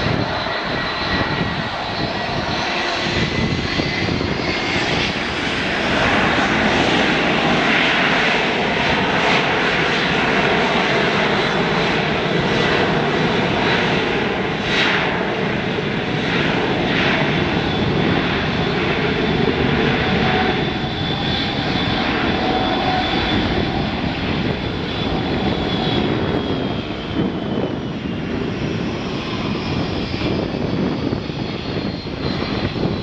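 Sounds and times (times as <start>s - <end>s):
jet engines at takeoff: 0.0s - 33.0s.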